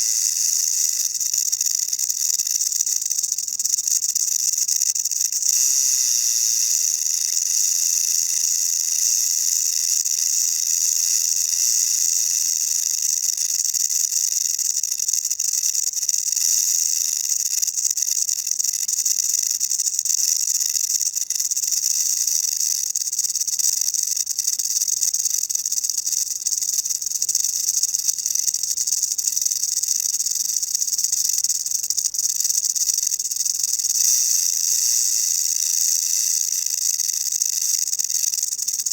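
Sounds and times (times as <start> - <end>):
rattlesnake tail rattle buzzing: 0.0 - 38.9.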